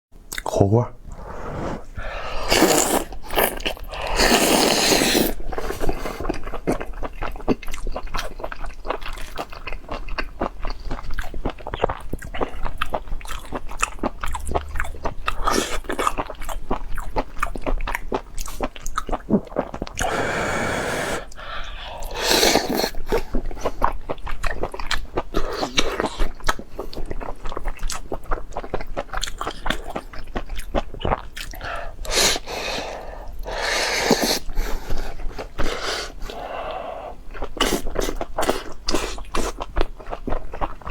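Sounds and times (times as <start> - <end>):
chewing and crunching: 2.4 - 20.1, 21.3 - 40.9.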